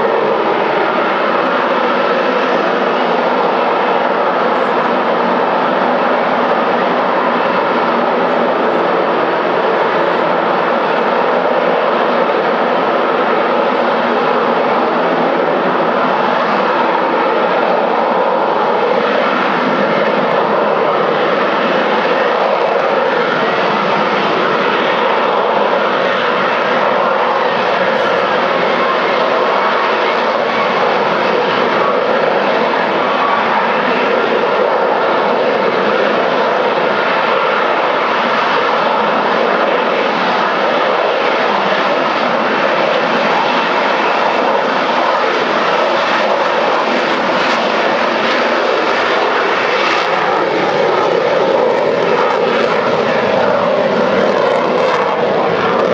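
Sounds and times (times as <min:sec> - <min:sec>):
jet engine hovering: 0:00.0 - 0:55.9.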